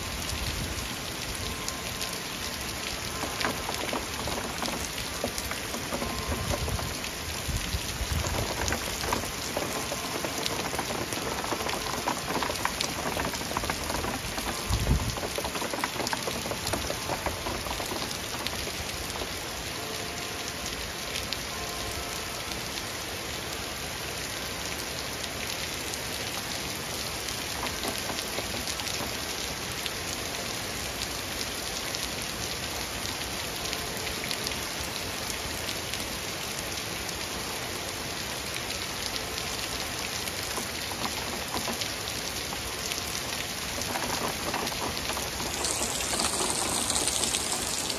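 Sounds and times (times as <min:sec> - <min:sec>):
heavy rain on pavement: 0:00.0 - 0:47.9.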